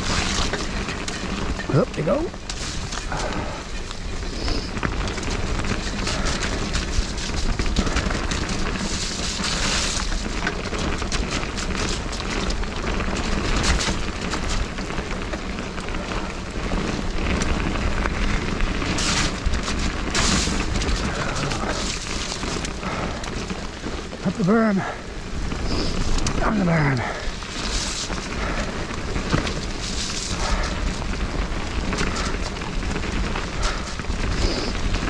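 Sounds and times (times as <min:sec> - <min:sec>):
bike tyres through mud and water: 0:00.0 - 0:35.0.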